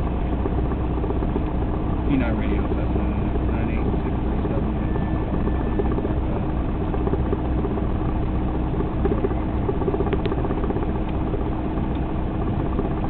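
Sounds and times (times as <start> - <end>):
plane engine and propeller idling: 0.0 - 13.0.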